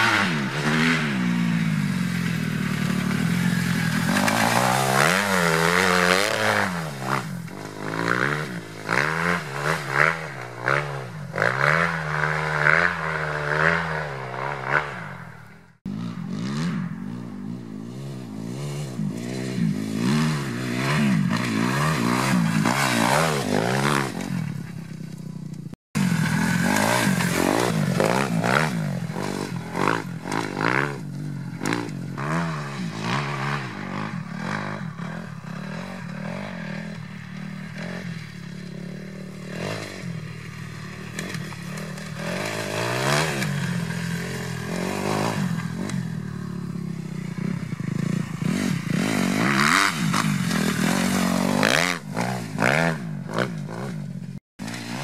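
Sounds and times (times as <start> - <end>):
dirtbike engine revving: 0.0 - 55.0.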